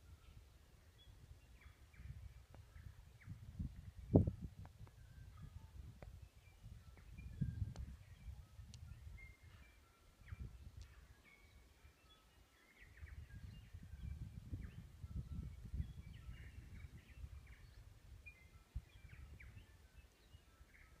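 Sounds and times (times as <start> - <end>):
birds whistling and chirping: 0.1 - 21.0.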